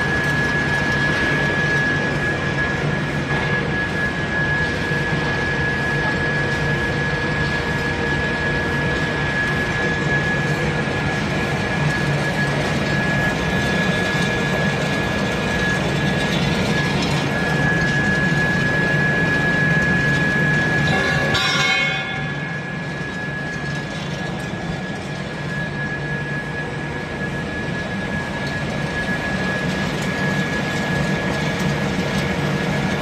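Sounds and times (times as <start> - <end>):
constant high whine: 0.0 - 33.0.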